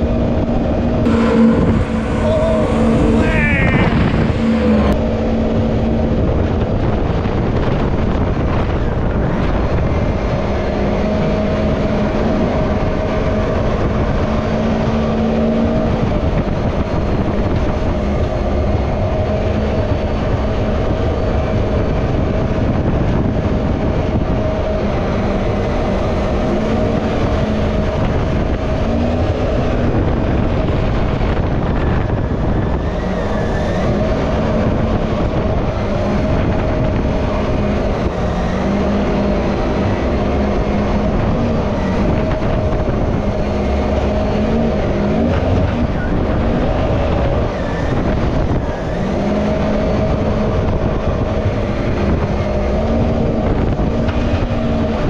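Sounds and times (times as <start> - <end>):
boat engine running: 0.0 - 55.0
water rushing along hull: 0.0 - 55.0.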